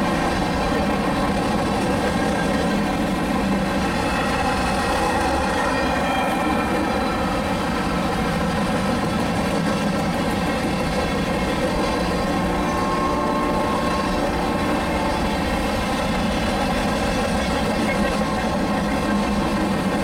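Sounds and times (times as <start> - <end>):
diesel locomotive engine hum: 0.0 - 20.0
train rumble: 0.0 - 20.0.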